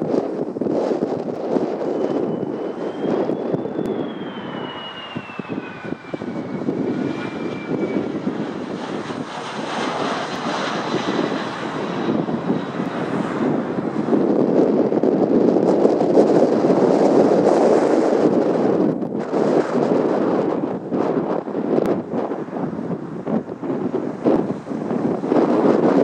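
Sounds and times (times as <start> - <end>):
jet engines whining: 0.0 - 26.0.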